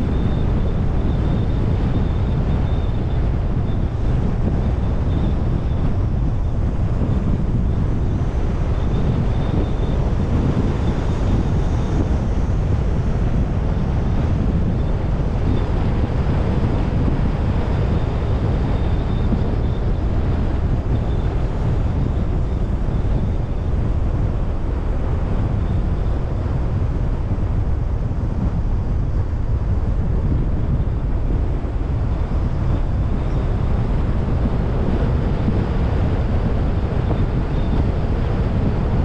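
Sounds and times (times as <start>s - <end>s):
faint high whine: 0.0s - 39.0s
road and wind noise: 0.0s - 39.0s
wind buffeting microphone: 0.0s - 39.0s.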